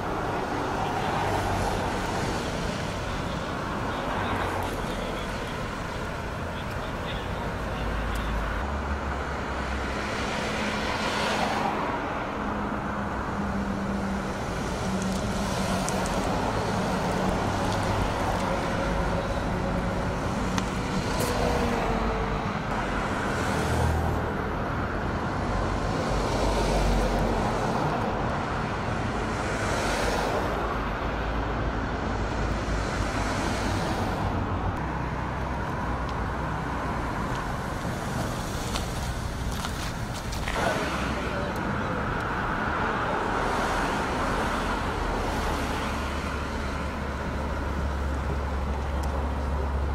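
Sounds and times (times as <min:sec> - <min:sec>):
cars passing: 0:00.0 - 0:49.9
steady traffic rumble: 0:00.0 - 0:49.9.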